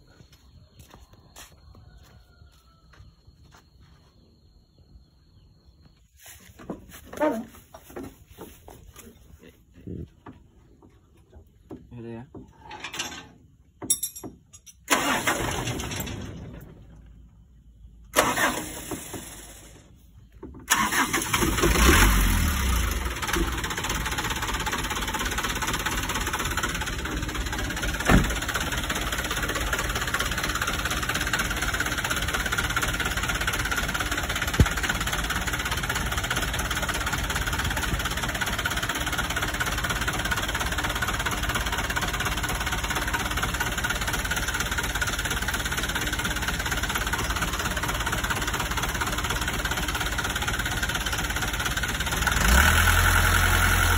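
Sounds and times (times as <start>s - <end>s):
car engine cranking and idling: 6.5s - 53.9s.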